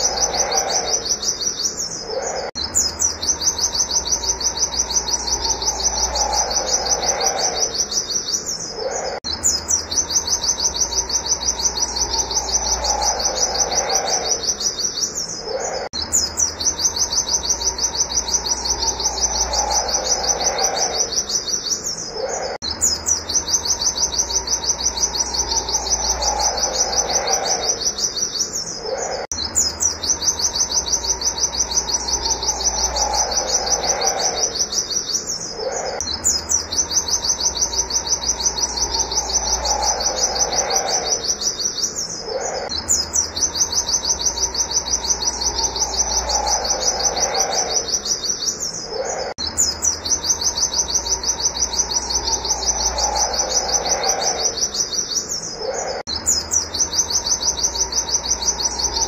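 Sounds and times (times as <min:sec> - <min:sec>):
bird high rapid chirps: 0:00.0 - 0:59.0.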